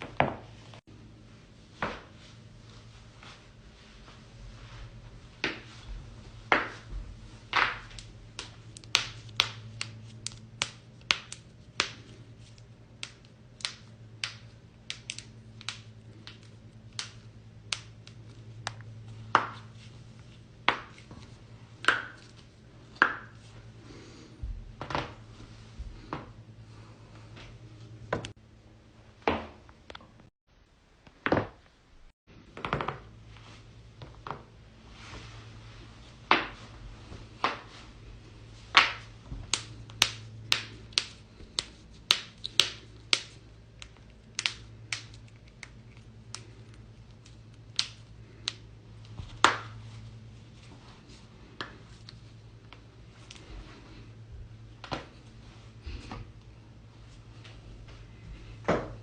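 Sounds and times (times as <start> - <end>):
steady low hum: 0.0 - 30.9, 31.9 - 59.0.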